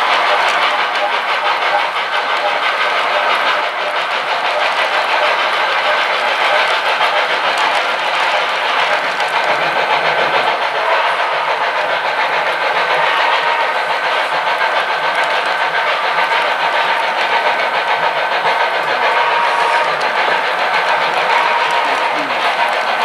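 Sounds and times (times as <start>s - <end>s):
wheels rolling on track: 0.0s - 23.0s.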